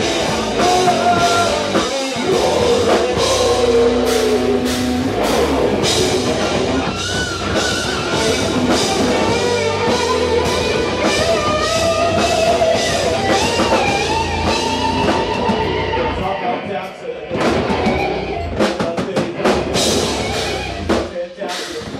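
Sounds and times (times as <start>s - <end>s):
drum kit: 0.0s - 16.4s, 17.3s - 21.9s
distorted electric guitar: 0.0s - 21.1s
bass guitar: 0.0s - 21.9s.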